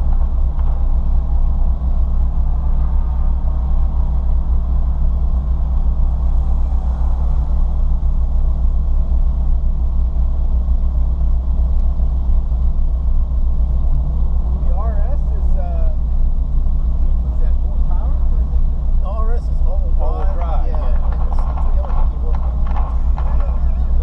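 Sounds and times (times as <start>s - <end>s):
car engine and road drone: 0.0s - 24.0s.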